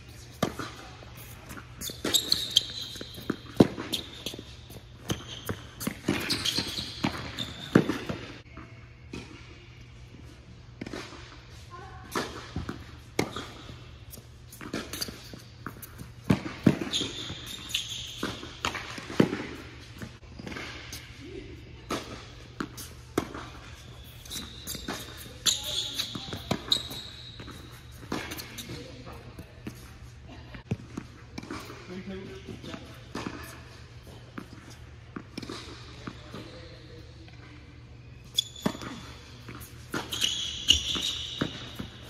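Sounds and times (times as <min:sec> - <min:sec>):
shoes squeaking on court: 0:00.0 - 0:42.0.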